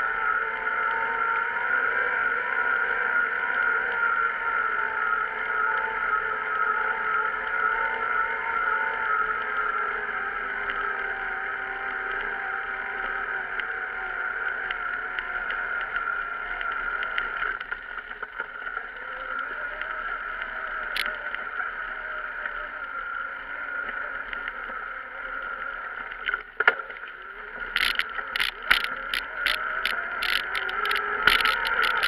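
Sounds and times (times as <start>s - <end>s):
bicycle high whine: 0.0s - 32.0s
bicycle rattling on stony path: 5.0s - 32.0s.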